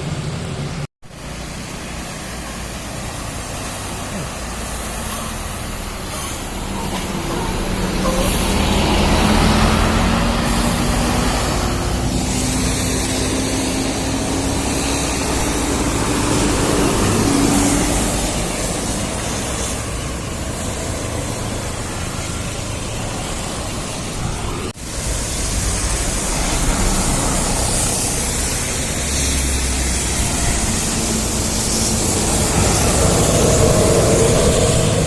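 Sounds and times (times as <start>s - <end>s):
bus engine pulling away: 0.0s - 35.0s
loud steady rushing noise: 0.0s - 35.0s.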